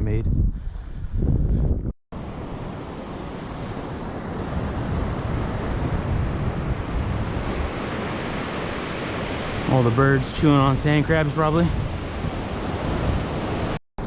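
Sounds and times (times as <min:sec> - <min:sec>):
wind buffeting microphone: 0:00.0 - 0:13.8
surf breaking on sandy beach: 0:02.2 - 0:13.8.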